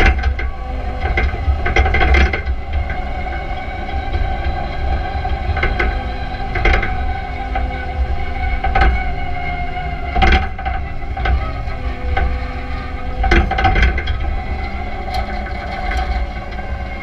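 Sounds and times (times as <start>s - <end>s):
forklift engine rumble and whine: 0.0s - 17.0s.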